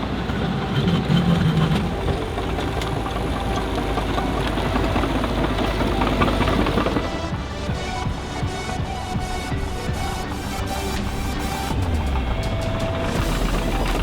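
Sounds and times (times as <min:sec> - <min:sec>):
clanking knocks: 0:00.0 - 0:14.0
engine idling drone: 0:00.0 - 0:14.0.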